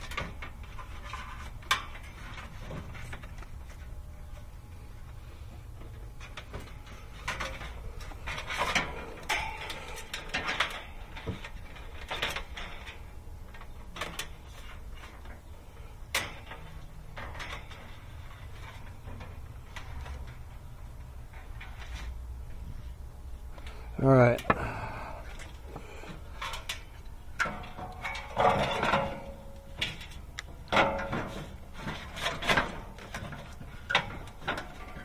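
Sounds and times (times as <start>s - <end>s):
wires rustling and scraping: 0.0s - 35.0s.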